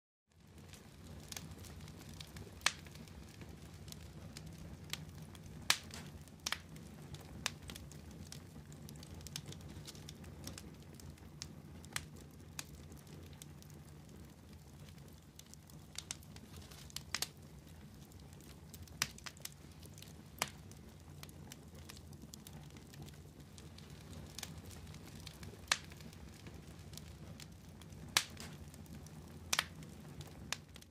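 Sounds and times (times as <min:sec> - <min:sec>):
wood fire crackling: 0:00.3 - 0:30.9
sharp pops of embers: 0:00.4 - 0:30.9.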